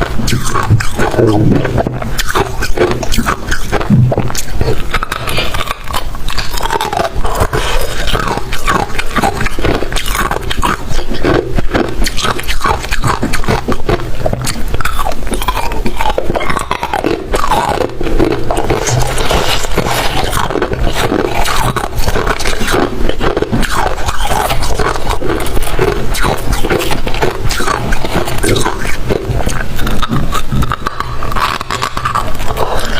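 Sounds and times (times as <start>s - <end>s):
chewing crunchy ice: 0.0s - 32.9s
squeaky frost compressing: 0.0s - 32.9s.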